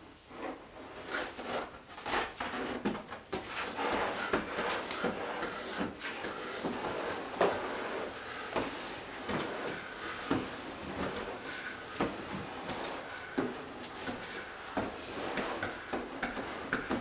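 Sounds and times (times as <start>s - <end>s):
knocks and scrapes on wood: 0.3s - 17.0s.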